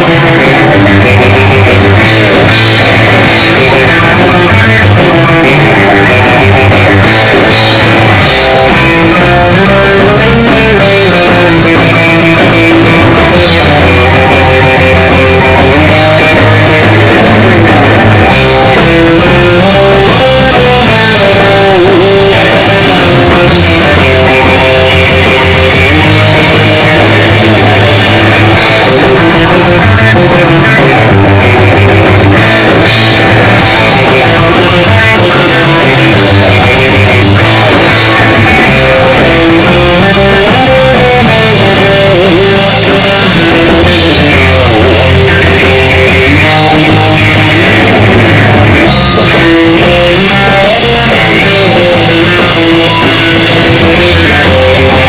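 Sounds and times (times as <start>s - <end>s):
bass guitar: 0.0s - 55.0s
drum kit: 0.0s - 55.0s
electric guitar melody: 0.0s - 55.0s.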